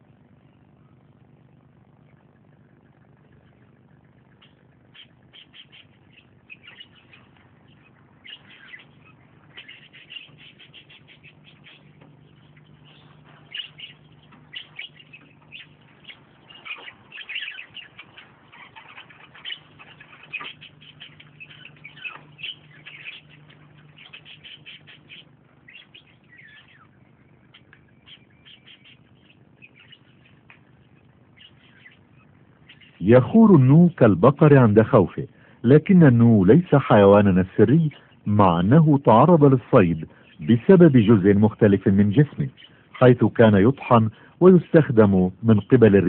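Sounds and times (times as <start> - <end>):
birds chirping: 0.0 - 46.0
faint low hum: 0.0 - 46.0.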